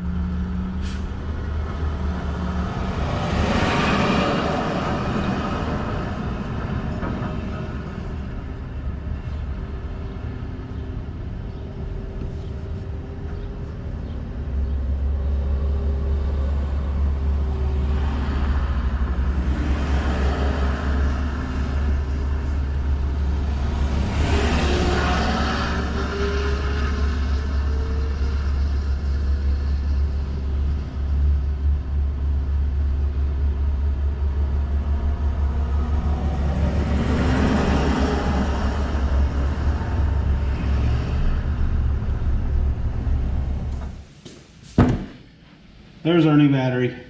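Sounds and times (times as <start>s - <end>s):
vehicle engine rumbling: 0.0s - 46.4s.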